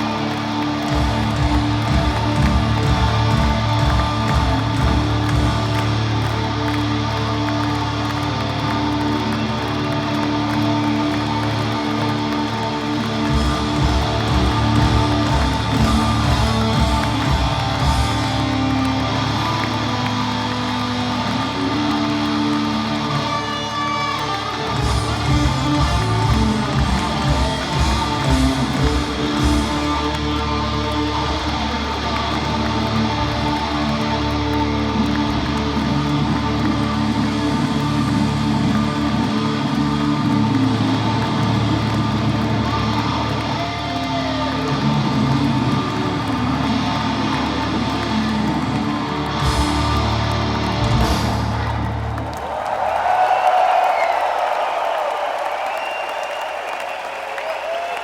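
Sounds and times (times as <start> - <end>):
hard rock band playing live: 0.0 - 52.2.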